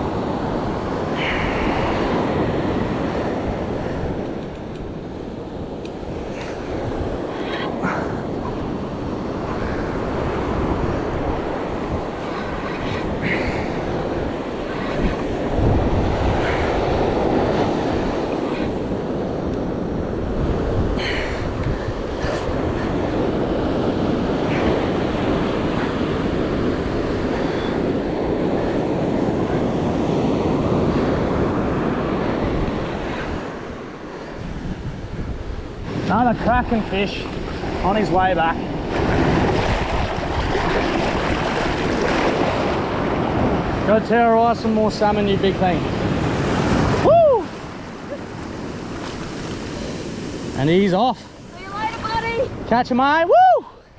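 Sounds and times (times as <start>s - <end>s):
surf washing on beach: 0.0s - 53.9s
wind buffeting microphone: 0.0s - 53.9s.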